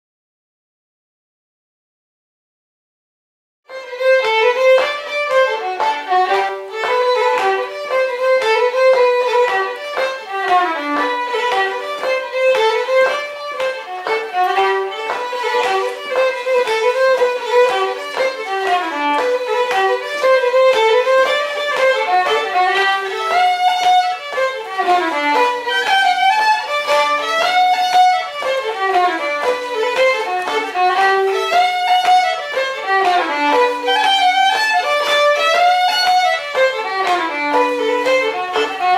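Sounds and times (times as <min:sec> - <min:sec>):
instrumental folk dance music: 0:03.7 - 0:38.9.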